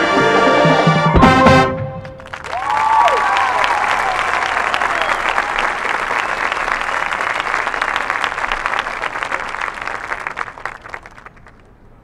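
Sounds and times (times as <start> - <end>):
stadium crowd applauding: 2.0 - 11.9.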